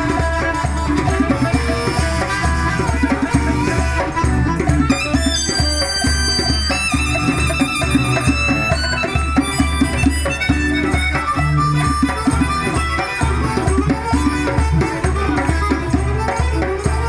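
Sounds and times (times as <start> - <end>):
afropop band playing: 0.0 - 17.0.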